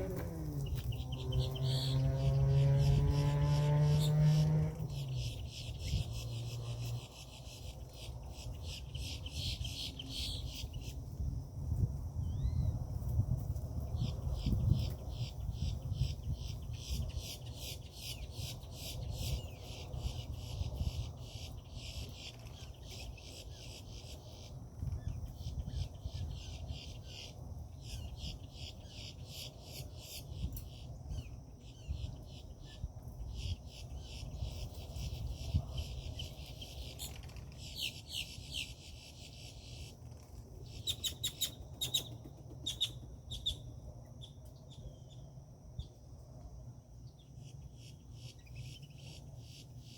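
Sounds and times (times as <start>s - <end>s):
sharp bird calls: 0.0s - 11.0s, 14.0s - 40.0s, 40.6s - 45.2s
insects chirring in pulsing bouts: 0.0s - 49.9s.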